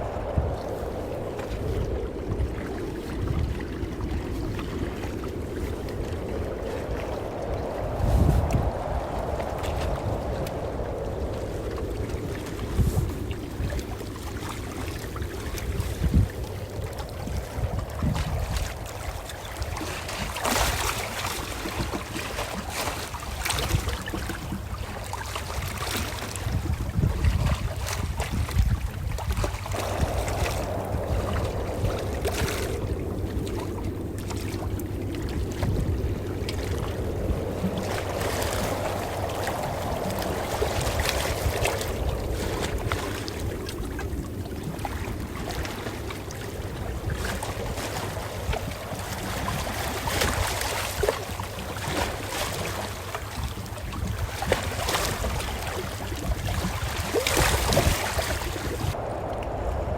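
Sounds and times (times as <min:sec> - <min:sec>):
ocean waves washing in: 0:00.0 - 0:59.9.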